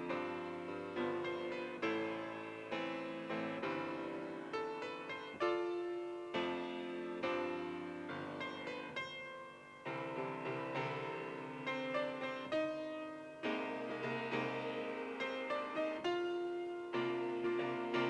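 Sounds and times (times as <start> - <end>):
piano playing gentle chords: 0.0 - 18.0.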